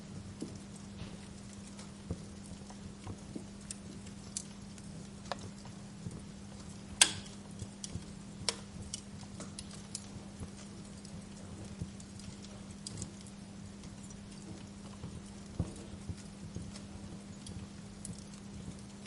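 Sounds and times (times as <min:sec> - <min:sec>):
steady low hum: 0:00.0 - 0:19.0
wood fire crackling: 0:00.0 - 0:19.0.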